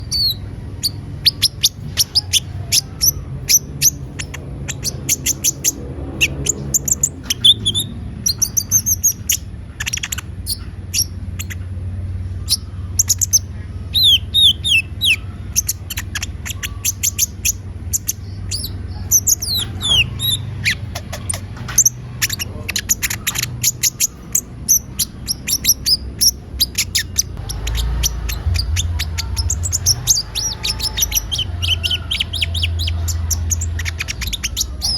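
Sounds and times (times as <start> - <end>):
bird singing high chirps: 0.0 - 34.9
low hum: 0.0 - 34.9.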